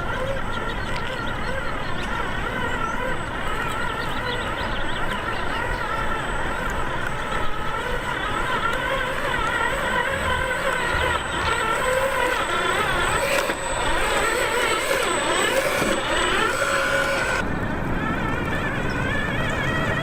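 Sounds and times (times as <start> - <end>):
remote-control truck motor whining: 0.0 - 20.0.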